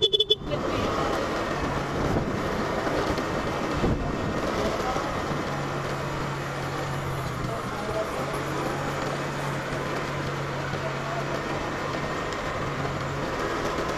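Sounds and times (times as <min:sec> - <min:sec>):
small motorbike engine running: 0:00.0 - 0:13.9
wind and road noise: 0:00.0 - 0:13.9.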